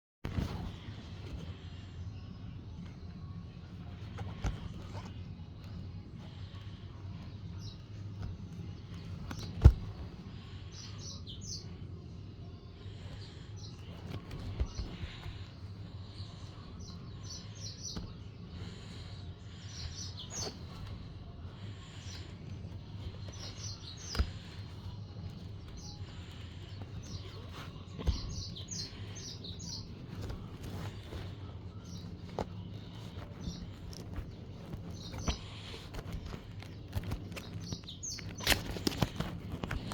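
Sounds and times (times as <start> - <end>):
small birds chirping: 0.3 - 39.9.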